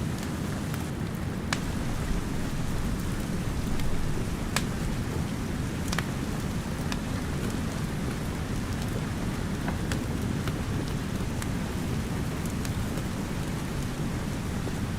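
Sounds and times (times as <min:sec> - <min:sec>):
steady rain: 0:00.0 - 0:14.9
wood fire pops and crackles: 0:00.1 - 0:13.6.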